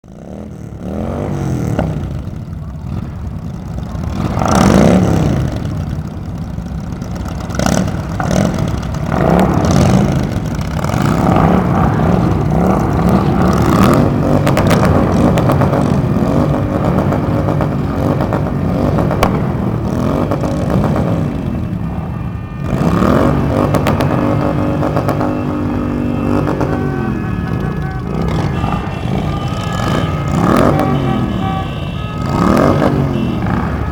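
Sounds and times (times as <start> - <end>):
motorcycles revving: 0.0 - 33.9.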